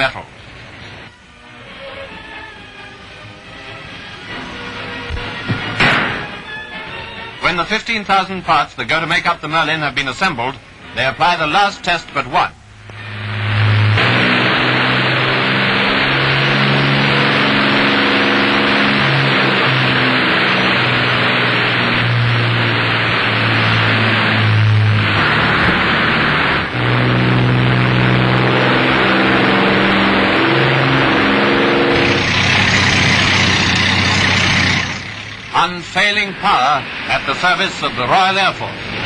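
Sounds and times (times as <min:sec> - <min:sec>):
aero engine roaring: 0:00.0 - 0:39.0.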